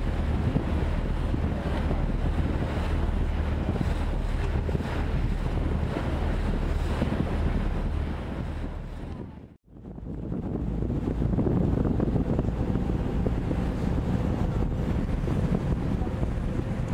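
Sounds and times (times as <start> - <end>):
boat engine drone: 0.0 - 16.9
water rushing past hull: 0.0 - 16.9
wind buffeting microphone: 0.0 - 16.9.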